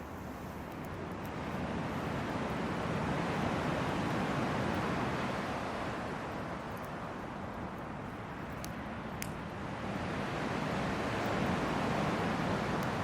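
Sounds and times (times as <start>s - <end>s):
campfire flames rushing: 0.1s - 13.0s.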